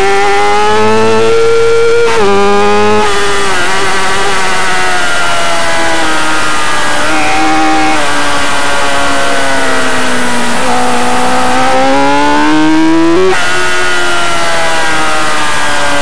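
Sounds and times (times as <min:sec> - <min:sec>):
racing motorcycle engine: 0:00.0 - 0:16.0.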